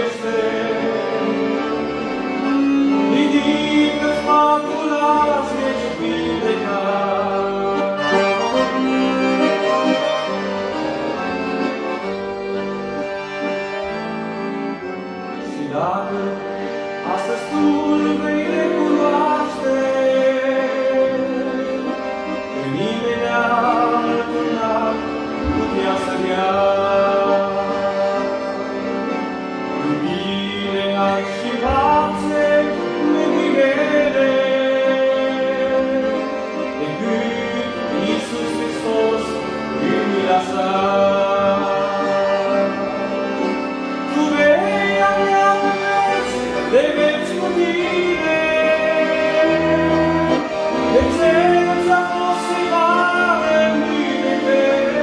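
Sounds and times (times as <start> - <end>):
man singing: 0.0 - 11.2, 15.3 - 28.9, 29.7 - 55.0
button accordion chords: 0.0 - 55.0.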